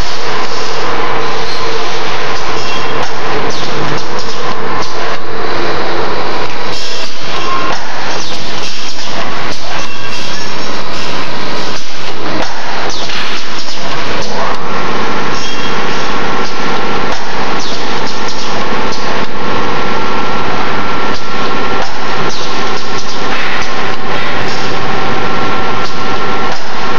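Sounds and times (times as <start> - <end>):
ring forming machine running: 0.0 - 26.9
steady machine whine: 0.0 - 26.9.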